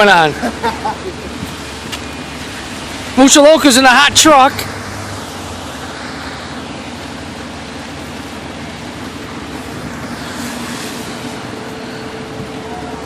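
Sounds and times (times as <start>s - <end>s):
faint engine hum: 0.0s - 13.0s
rushing wind: 0.0s - 13.0s.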